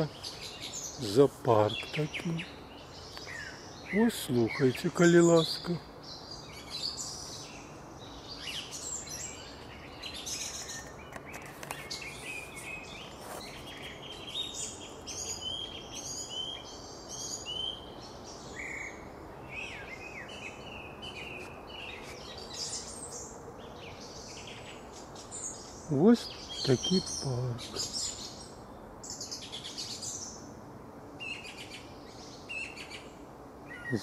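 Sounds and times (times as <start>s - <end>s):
faint steady background noise: 0.0s - 34.0s
songbirds chirping and whistling: 0.0s - 34.0s.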